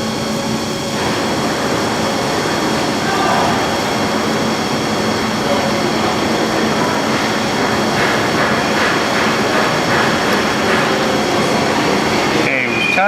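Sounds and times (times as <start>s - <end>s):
lathe running with high whine: 0.0s - 13.0s
rough ragged machine noise: 0.0s - 13.0s.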